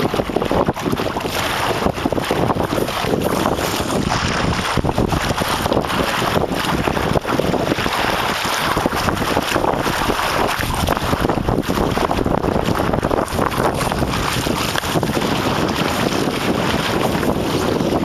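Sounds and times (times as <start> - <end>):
water splashing and lapping: 0.0 - 18.0
wind buffeting microphone: 0.0 - 18.0.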